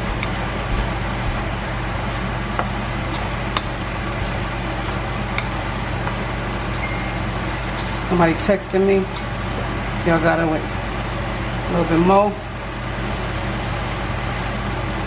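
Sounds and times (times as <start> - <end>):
fried rice sizzling in a wok: 0.0 - 15.0
steady low hum: 0.0 - 15.0.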